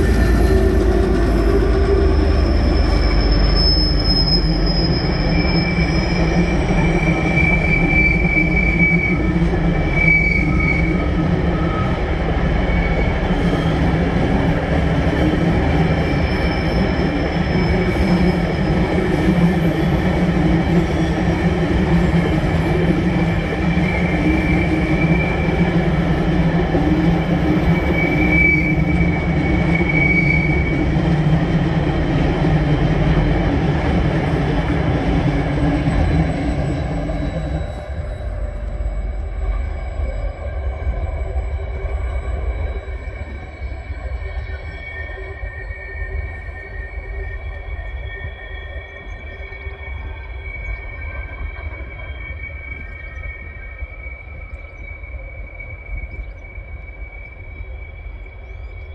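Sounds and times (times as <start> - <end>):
high wheel squeal: 0.0 - 58.9
train wheels rumbling on rail: 0.0 - 58.9.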